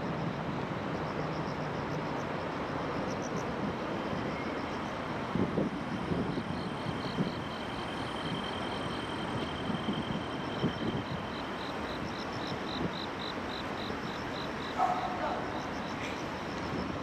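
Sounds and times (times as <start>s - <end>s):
distant city traffic hum: 0.0s - 17.0s
insects chirping: 0.0s - 17.0s.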